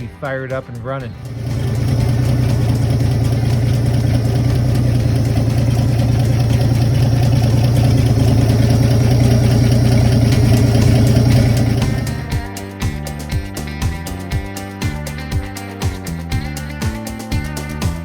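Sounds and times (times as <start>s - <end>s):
truck engine idling: 1.1s - 18.0s.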